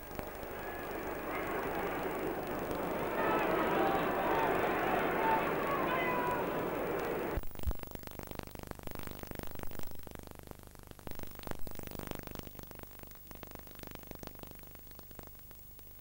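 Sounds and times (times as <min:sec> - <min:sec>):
tape hiss and crackle: 0:00.0 - 0:16.0.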